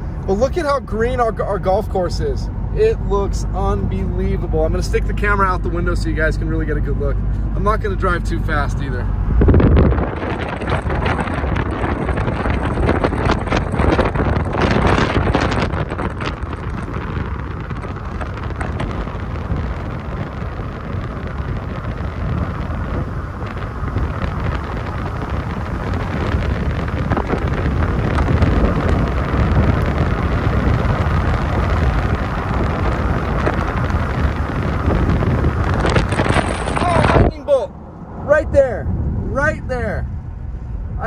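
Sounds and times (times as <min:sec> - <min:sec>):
car road and engine noise: 0:00.0 - 0:41.0
wind buffeting microphone: 0:00.0 - 0:41.0.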